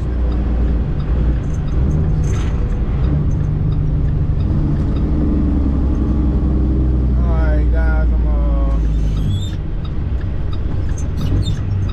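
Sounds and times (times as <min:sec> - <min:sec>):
road noise: 0:00.0 - 0:11.9
truck diesel engine drone: 0:00.0 - 0:11.9.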